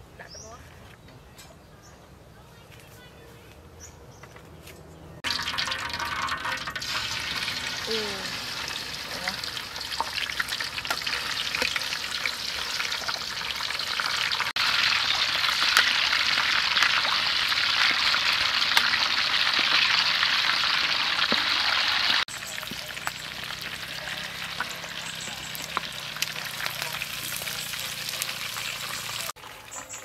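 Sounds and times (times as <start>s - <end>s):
oil sizzling with pops: 5.2s - 30.0s.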